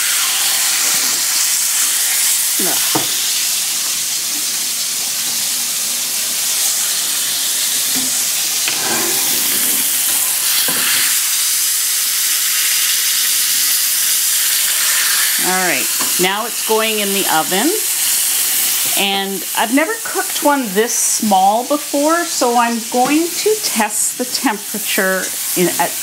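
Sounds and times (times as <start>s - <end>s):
meat sizzling in a pan: 0.0s - 26.0s.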